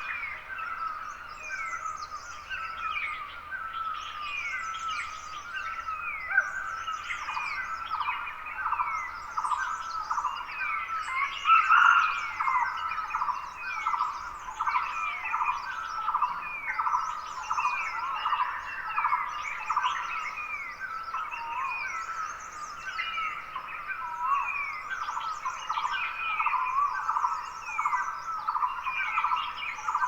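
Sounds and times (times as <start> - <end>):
birds twittering: 0.0 - 30.0.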